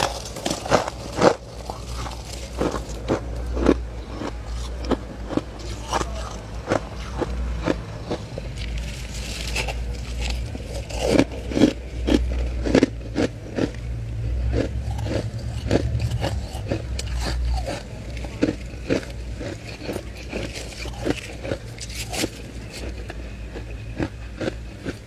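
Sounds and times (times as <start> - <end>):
frost crunching between teeth: 0.0 - 25.0
steady low hum: 0.0 - 25.0.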